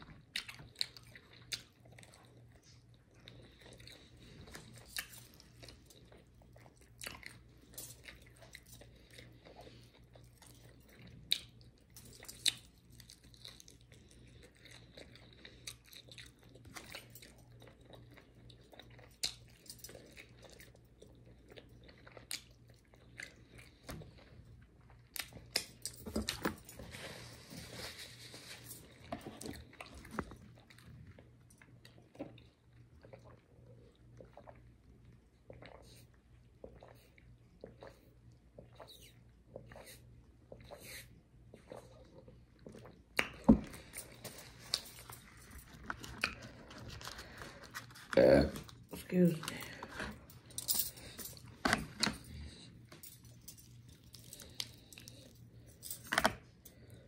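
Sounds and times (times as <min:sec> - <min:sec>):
chewing crispy chicken: 0:00.0 - 0:57.0.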